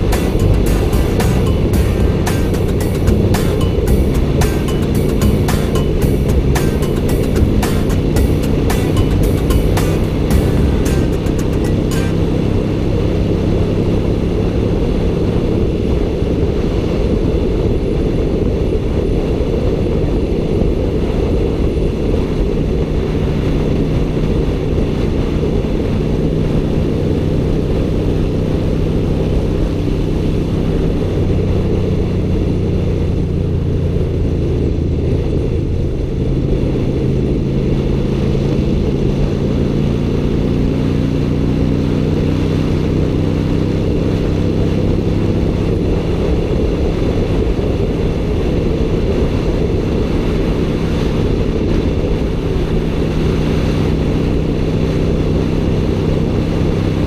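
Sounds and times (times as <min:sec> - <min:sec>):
motorcycle engine running: 0:00.0 - 0:57.0
wind rush on microphone: 0:09.6 - 0:57.0.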